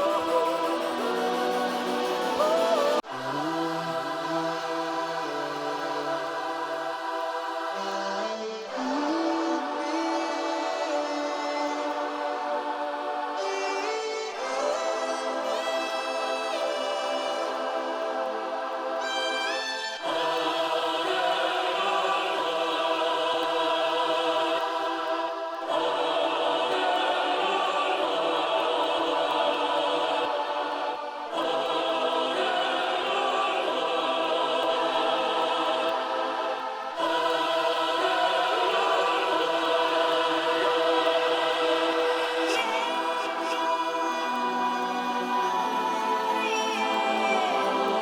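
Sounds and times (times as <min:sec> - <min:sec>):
slow choir-like chords: 0:00.0 - 0:48.0.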